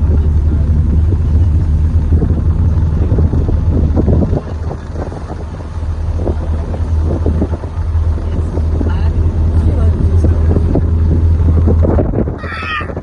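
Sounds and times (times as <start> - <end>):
road and engine rumble: 0.0 - 13.0
wind buffeting microphone: 0.0 - 13.0.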